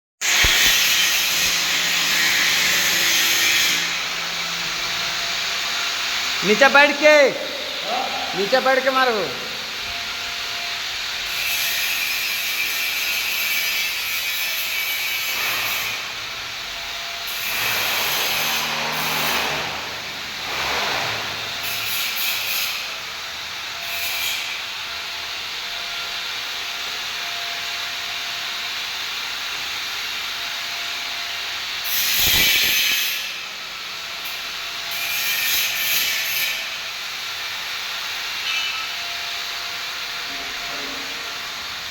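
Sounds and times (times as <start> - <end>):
arc welding crackling hiss: 0.2 - 41.9.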